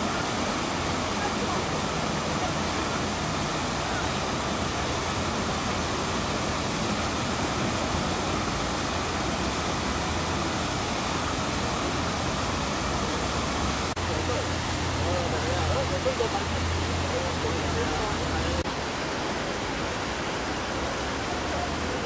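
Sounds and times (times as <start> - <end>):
fountain water splashing: 0.0 - 22.0
low rumble of traffic: 0.1 - 18.7.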